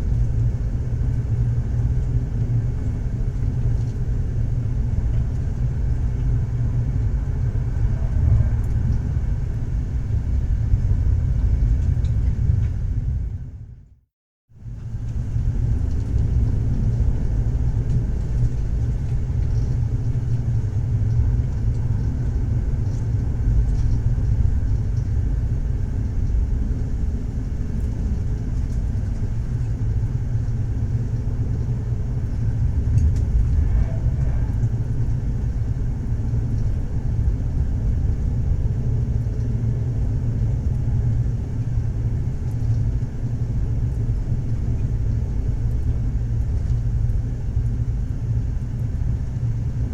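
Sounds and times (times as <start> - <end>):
train rumbling: 0.0 - 13.8, 14.6 - 49.9.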